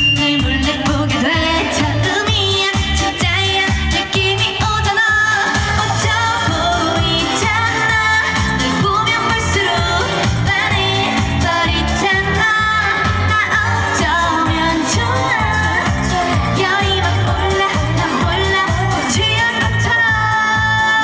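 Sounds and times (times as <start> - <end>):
amplified backing track: 0.0 - 21.0
woman singing: 0.0 - 21.0.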